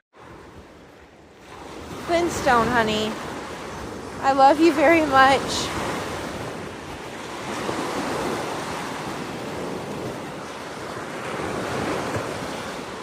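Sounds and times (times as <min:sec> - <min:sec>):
waves washing onto beach: 0:00.2 - 0:13.0
wind buffeting microphone: 0:00.2 - 0:13.0.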